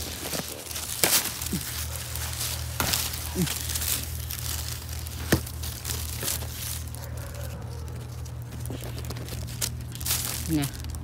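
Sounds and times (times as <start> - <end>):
leaves rustling and crackling: 0.0 - 11.0
steady low hum: 0.0 - 11.0.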